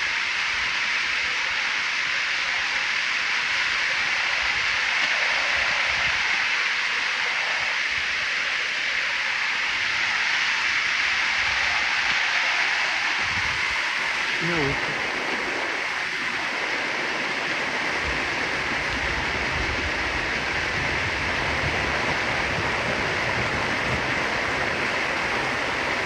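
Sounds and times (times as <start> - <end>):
creek rushing: 0.0 - 26.0.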